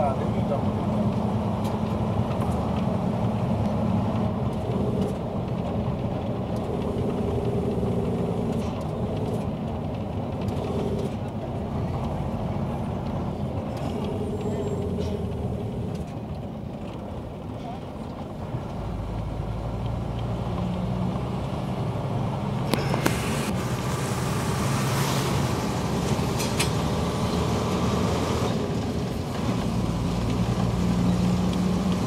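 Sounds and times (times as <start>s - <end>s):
vehicle engine hum and tyre noise: 0.0s - 32.0s.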